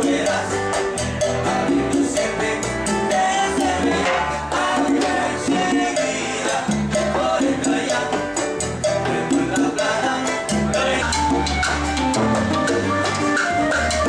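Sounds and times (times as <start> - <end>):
upbeat latin dance music: 0.0 - 14.0.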